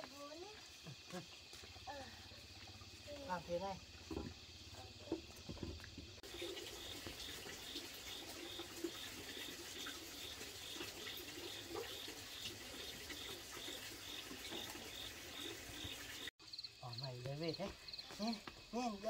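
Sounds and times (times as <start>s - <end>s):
water running: 0.0s - 16.3s.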